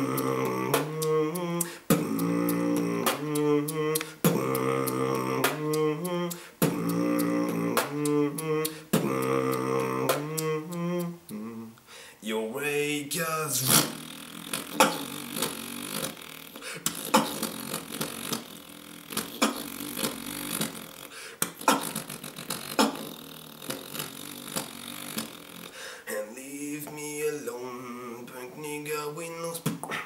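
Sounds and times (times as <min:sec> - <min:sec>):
man beatboxing: 0:00.0 - 0:11.7, 0:12.3 - 0:30.0
humming: 0:00.0 - 0:11.9, 0:12.8 - 0:30.0.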